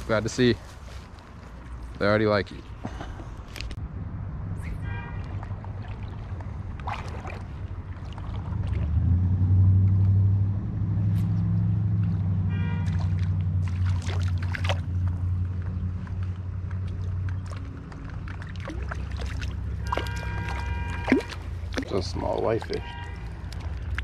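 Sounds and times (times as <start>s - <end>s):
river water rumbling: 0.0s - 24.0s.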